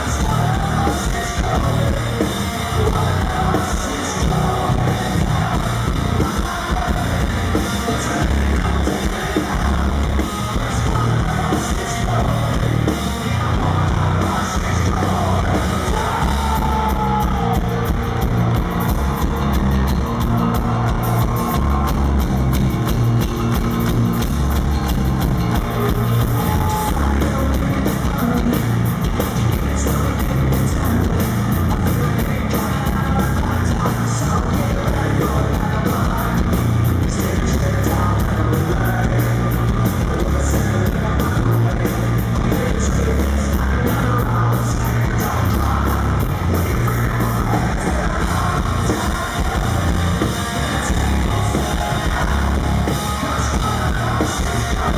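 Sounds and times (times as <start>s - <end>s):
man singing: 0.0s - 23.0s, 25.2s - 54.9s
bass guitar: 0.0s - 54.9s
drum kit: 0.0s - 54.9s
electric guitar: 0.0s - 54.9s.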